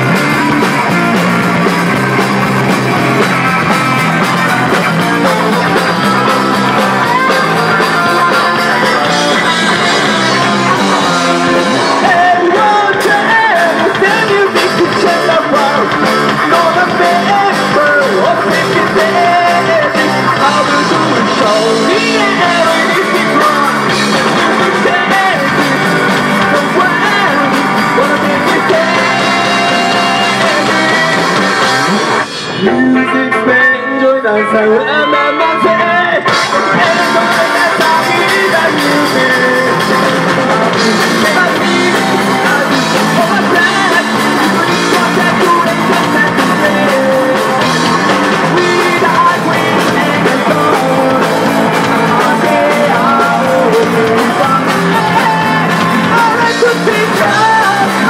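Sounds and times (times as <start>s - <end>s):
live rock band playing: 0.0s - 58.0s
man singing: 0.0s - 58.0s.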